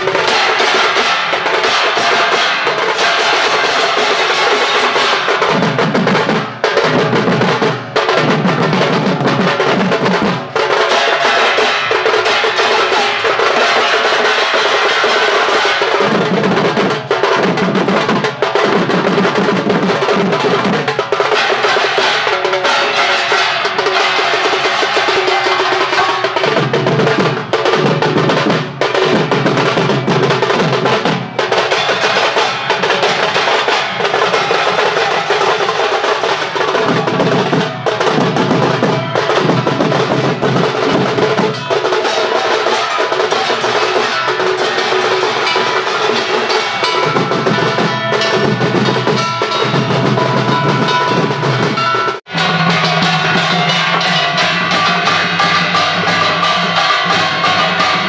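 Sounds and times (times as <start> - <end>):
large drums beaten with sticks: 0.0 - 58.0.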